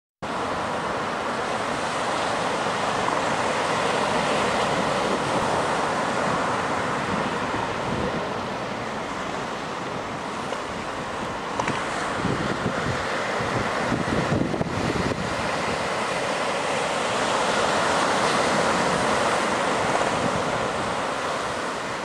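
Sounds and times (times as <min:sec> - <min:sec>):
ocean surf breaking on beach: 0:00.2 - 0:22.0
wind buffeting microphone: 0:00.4 - 0:22.0.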